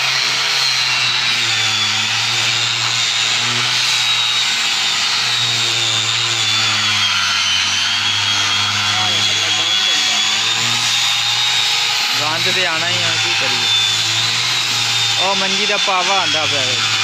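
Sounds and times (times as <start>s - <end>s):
electric disc sander whining: 0.0s - 17.0s
sanding disc rubbing on wood: 0.0s - 17.0s.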